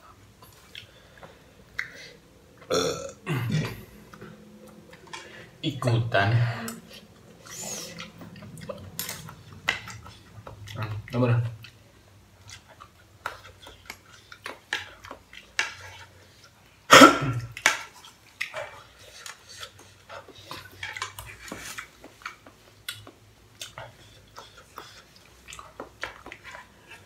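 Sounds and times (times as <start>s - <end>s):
chewing and mouth noises: 0.4s - 2.6s, 6.7s - 16.8s, 17.4s - 27.0s.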